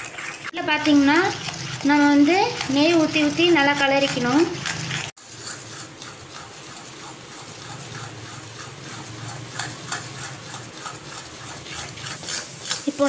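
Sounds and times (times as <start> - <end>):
spatula stirring thick mixture in pan: 0.0 - 13.0.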